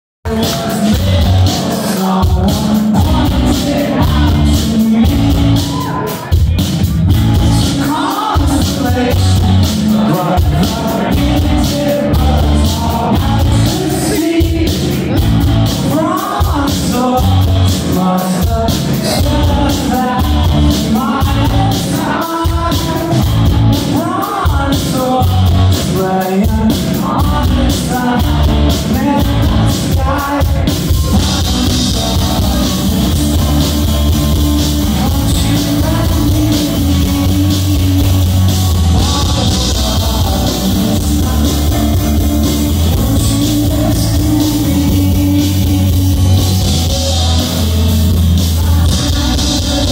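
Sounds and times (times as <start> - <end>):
bass guitar: 0.2 - 49.9
drum kit playing: 0.2 - 49.9
electric guitars: 0.3 - 49.9
male lead vocal singing: 0.3 - 49.9.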